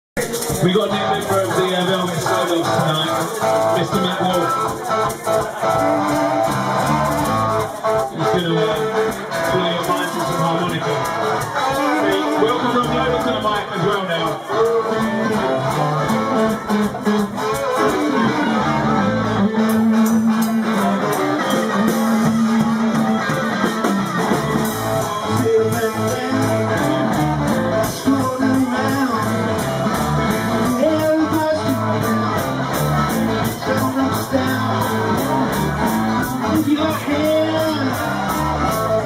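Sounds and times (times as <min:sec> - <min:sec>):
drum kit beat: 0:00.2 - 0:39.0
electric guitar: 0:00.2 - 0:39.0.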